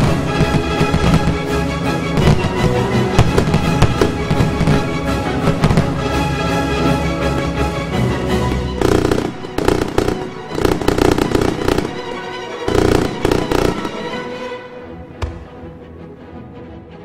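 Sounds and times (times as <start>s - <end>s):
fireworks crackling: 0.0s - 7.6s, 8.5s - 14.5s
music playing: 0.0s - 17.0s.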